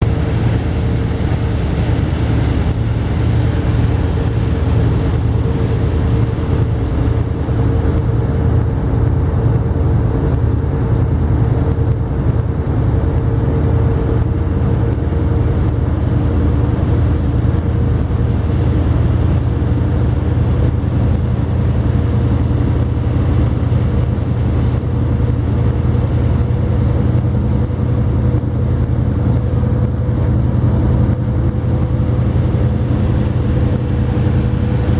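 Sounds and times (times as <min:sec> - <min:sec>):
faint steady whine: 0:00.0 - 0:09.0, 0:12.4 - 0:34.9
boat engine rumbling: 0:00.0 - 0:34.9.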